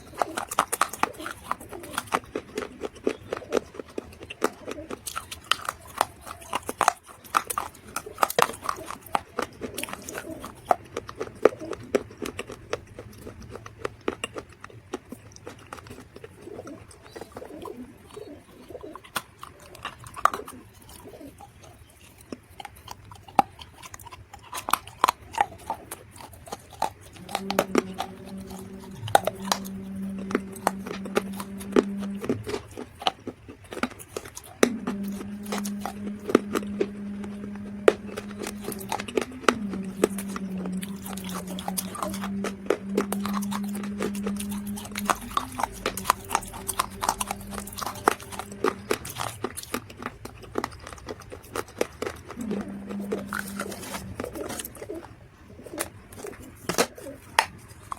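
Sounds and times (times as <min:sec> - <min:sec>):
mud being chewed with crunches: 0:00.0 - 0:57.9
steady low hum: 0:00.0 - 0:57.9.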